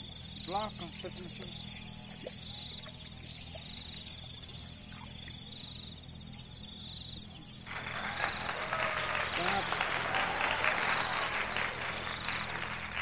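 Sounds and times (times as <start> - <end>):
insects chirping: 0.0 - 13.0
pulsing insect trill: 0.0 - 13.0.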